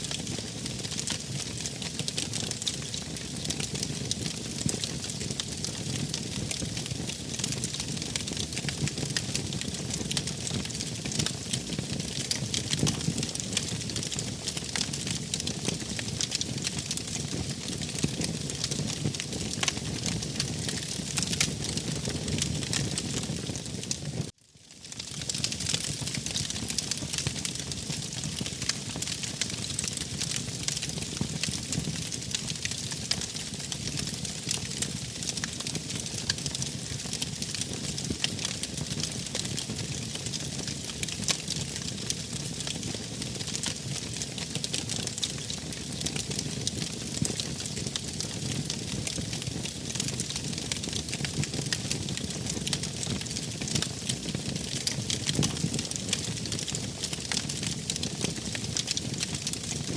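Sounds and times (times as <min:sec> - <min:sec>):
wood fire burning: 0:00.1 - 0:59.9.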